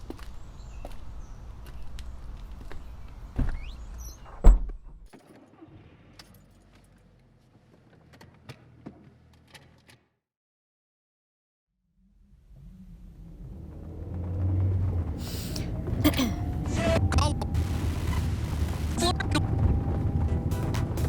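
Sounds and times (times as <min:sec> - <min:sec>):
vehicle engine rumble: 0:00.0 - 0:09.5, 0:12.1 - 0:21.0.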